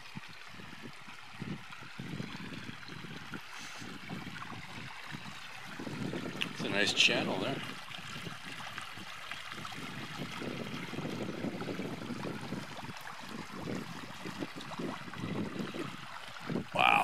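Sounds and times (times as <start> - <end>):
rainwater rushing through channel: 3.3 - 17.0.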